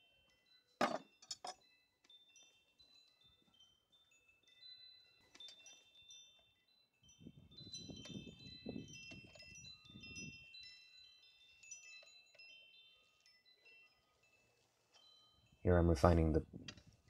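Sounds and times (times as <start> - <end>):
metallic chiming: 0.0 - 16.5.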